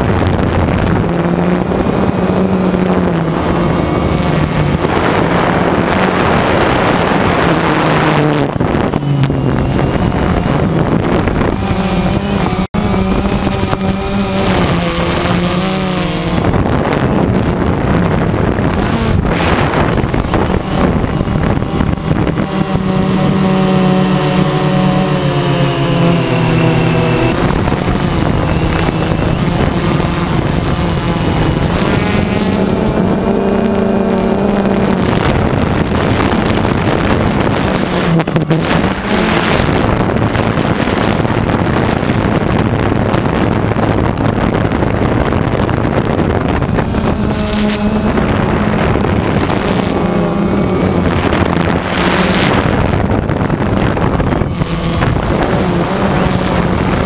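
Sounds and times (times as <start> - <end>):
drone propellers buzzing: 0.0 - 57.0
wind noise on microphone: 0.0 - 57.0.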